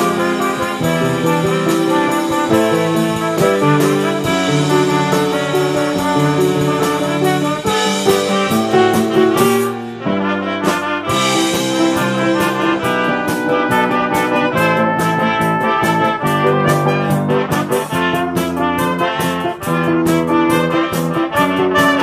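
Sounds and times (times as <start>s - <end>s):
drum kit played with sticks: 0.0s - 22.0s
piano: 0.0s - 22.0s
trumpets playing in harmony: 0.0s - 22.0s.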